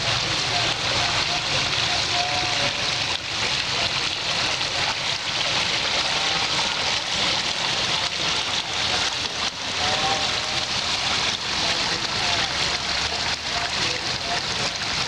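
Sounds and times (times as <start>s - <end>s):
water splashing into basin: 0.0s - 15.0s.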